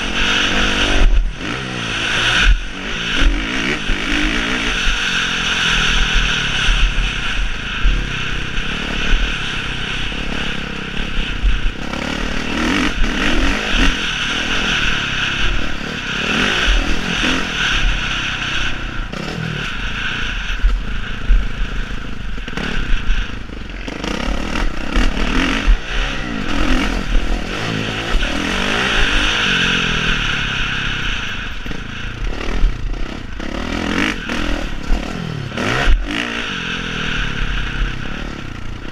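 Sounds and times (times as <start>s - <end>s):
motocross motorcycle engines: 0.0s - 38.9s.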